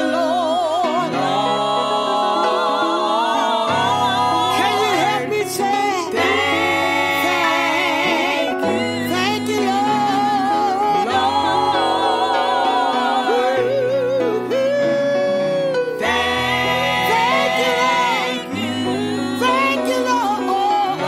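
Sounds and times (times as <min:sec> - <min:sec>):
gospel singing: 0:00.0 - 0:21.0.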